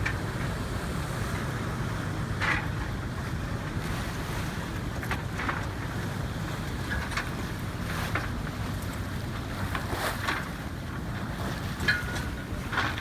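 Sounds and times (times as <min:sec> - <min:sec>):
water rushing along a hull: 0:00.0 - 0:13.0.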